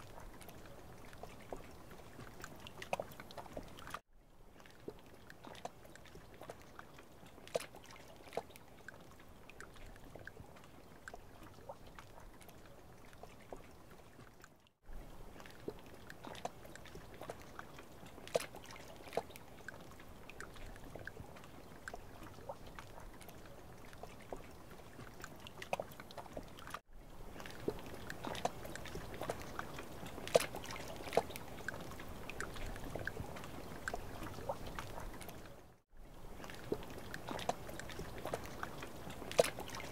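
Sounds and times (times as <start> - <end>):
water drips and light splashes: 0.0 - 39.9.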